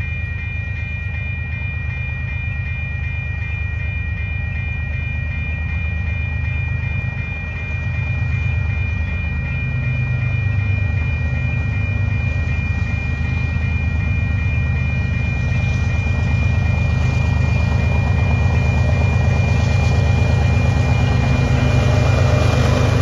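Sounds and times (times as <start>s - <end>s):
diesel locomotive engine rumbling: 0.0s - 23.0s
steady high-pitched tone: 0.0s - 23.0s.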